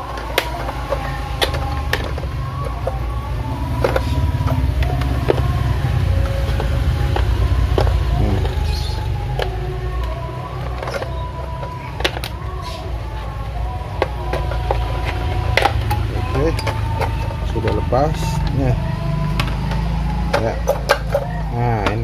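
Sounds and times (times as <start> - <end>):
plastic lid clicking and creaking: 0.0 - 3.1, 3.7 - 12.8, 13.9 - 18.6, 19.2 - 22.0.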